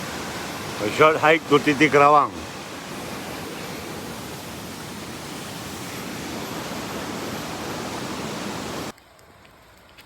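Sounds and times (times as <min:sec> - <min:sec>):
waterfall rushing: 0:00.0 - 0:08.9.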